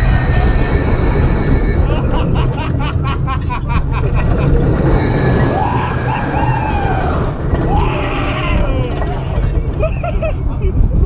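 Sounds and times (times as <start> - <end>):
roller coaster train rumbling: 0.0 - 11.0.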